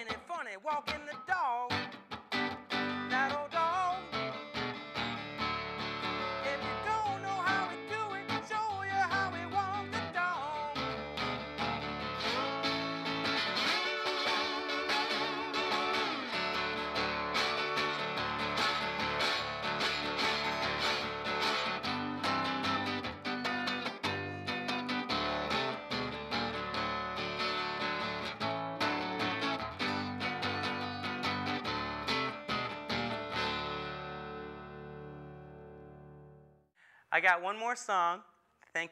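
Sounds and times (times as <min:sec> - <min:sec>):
slide acoustic guitar blues: 0:00.0 - 0:36.4.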